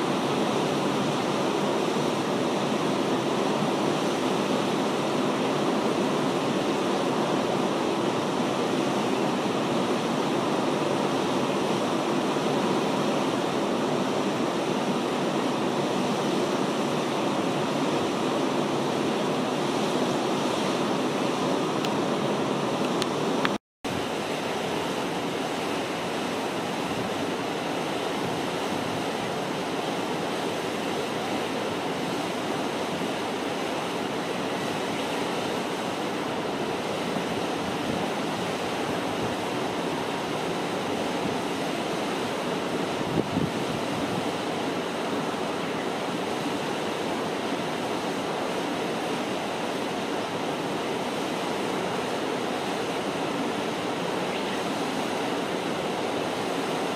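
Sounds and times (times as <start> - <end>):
water rushing below a dam: 0.0 - 56.9.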